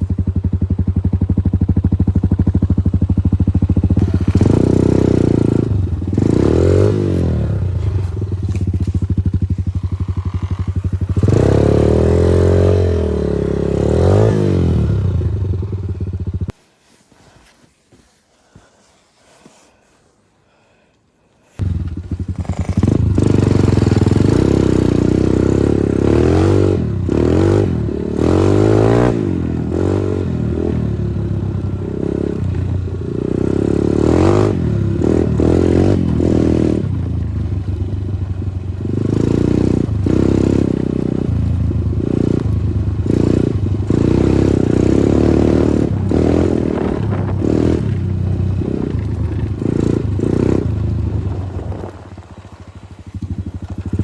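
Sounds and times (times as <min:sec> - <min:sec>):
engine knocks and rattles: 0:00.0 - 0:16.5, 0:21.6 - 0:54.0
motorcycle engine revving: 0:00.0 - 0:16.6, 0:21.6 - 0:54.0.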